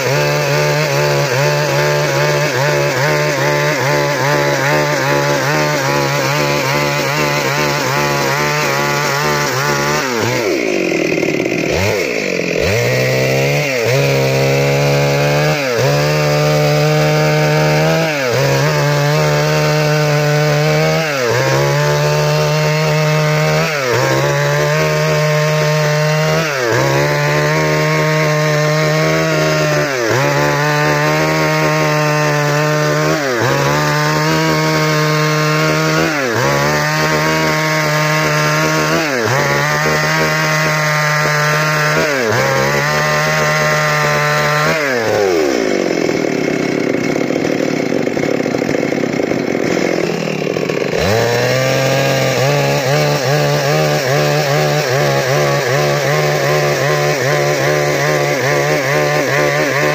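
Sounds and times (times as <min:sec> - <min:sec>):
chainsaw cutting a log: 0:00.0 - 0:59.9.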